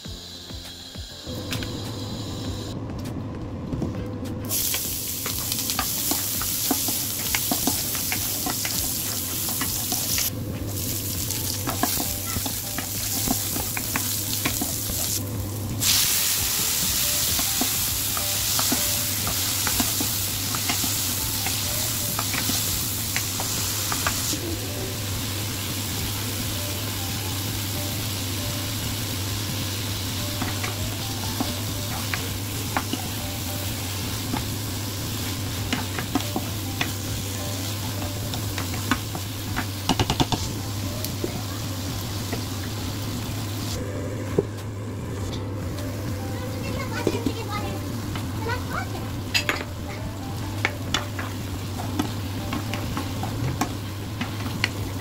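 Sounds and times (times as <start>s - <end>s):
vegetables sizzling in hot oil: 4.5s - 43.8s, 46.0s - 55.0s.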